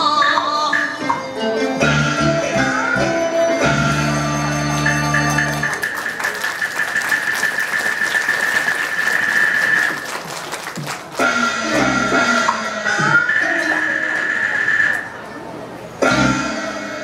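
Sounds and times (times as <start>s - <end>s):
opera accompaniment band: 0.0s - 15.3s, 15.9s - 17.0s.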